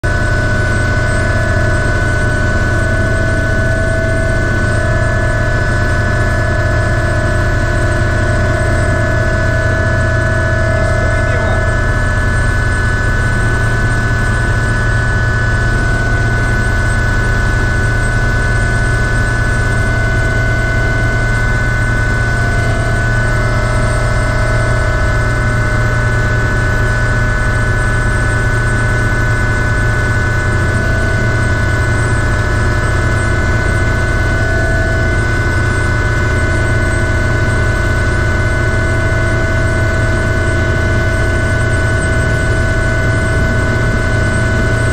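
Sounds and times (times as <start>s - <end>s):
helicopter turbine engine whine: 0.0s - 44.9s.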